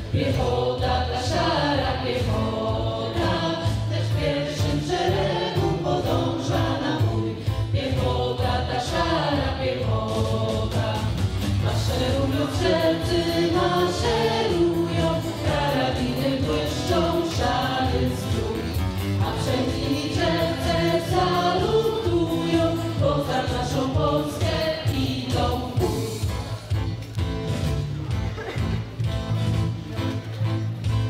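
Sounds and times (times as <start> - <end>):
choir singing: 0.0 - 26.2
instrumental accompaniment: 0.0 - 31.0.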